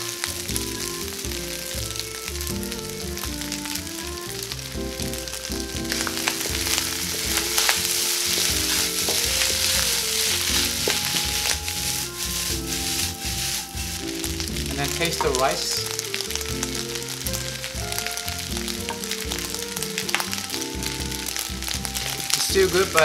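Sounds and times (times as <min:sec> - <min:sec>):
rice sizzling in a wok: 0:00.0 - 0:23.0
wooden spatula scraping a wok: 0:00.0 - 0:23.0.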